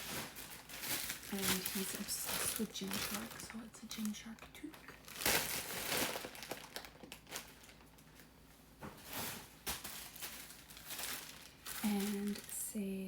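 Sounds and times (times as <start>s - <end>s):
packaging rustling and crinkling: 0.0s - 12.8s.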